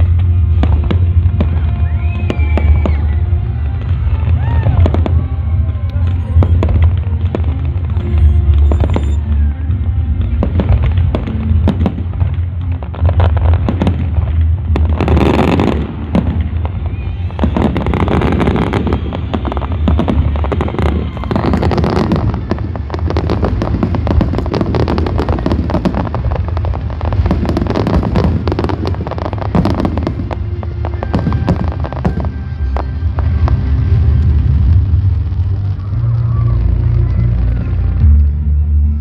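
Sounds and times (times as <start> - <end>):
fireworks hissing: 0.0 - 38.3
fireworks bursting and crackling: 0.0 - 39.0.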